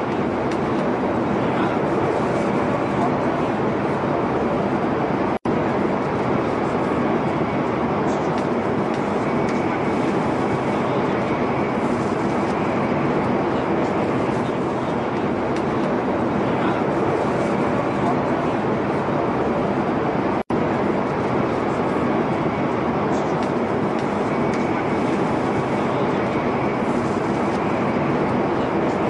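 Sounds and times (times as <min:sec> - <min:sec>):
metro train rumbling: 0:00.0 - 0:29.0.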